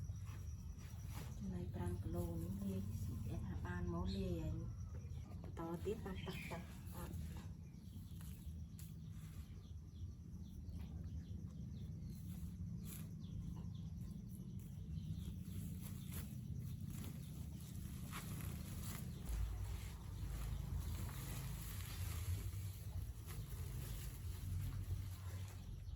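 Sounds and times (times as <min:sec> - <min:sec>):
low rumble: 0:01.3 - 0:25.9.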